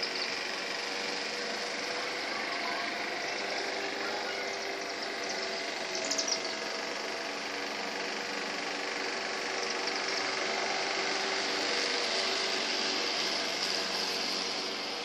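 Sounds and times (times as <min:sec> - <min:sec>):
high chittering calls: 0:00.0 - 0:15.0
steady machine-like hum: 0:00.0 - 0:15.0.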